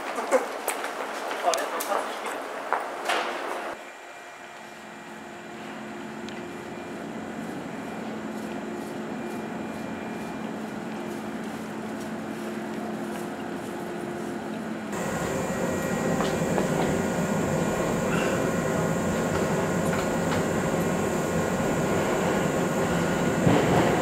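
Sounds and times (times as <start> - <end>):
electric train machine hum: 3.7 - 24.0.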